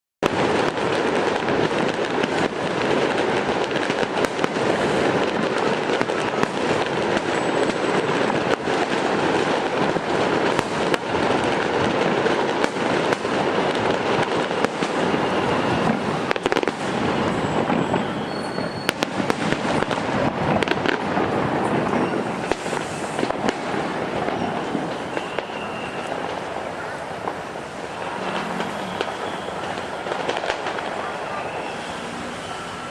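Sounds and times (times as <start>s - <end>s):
fireworks crackling and popping: 0.2s - 32.9s.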